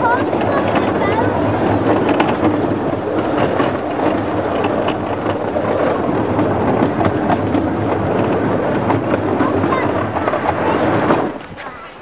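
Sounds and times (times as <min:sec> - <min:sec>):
train carriages rumbling: 0:00.0 - 0:12.0
wheels clicking over rail joints: 0:00.0 - 0:12.0.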